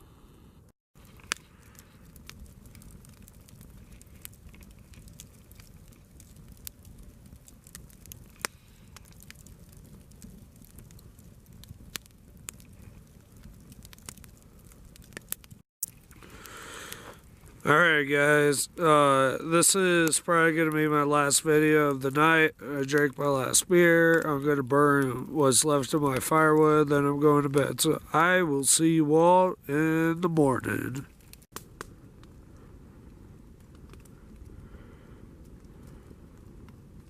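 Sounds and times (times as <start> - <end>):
campfire crackling and popping: 1.0 - 37.0.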